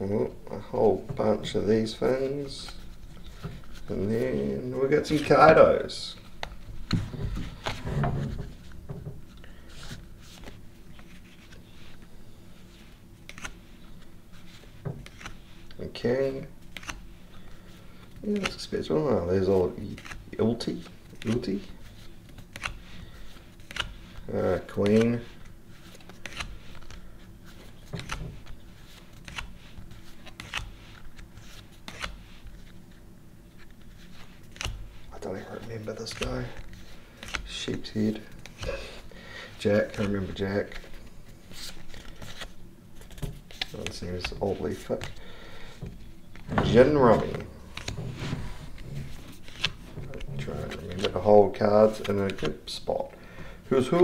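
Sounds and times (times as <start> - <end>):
cards clicking and rustling: 1.2 - 32.8, 33.6 - 52.8.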